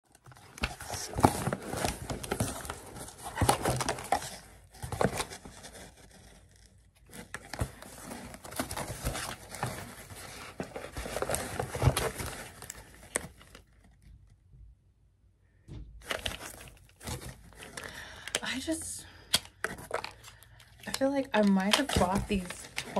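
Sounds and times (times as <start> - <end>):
packaging rustling: 0.1 - 14.0, 16.0 - 22.9.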